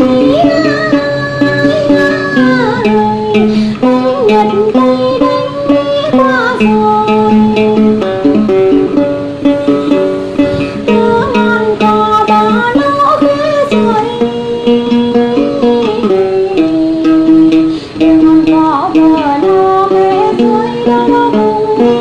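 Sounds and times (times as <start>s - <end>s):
plucked string instrument melody: 0.0s - 22.0s.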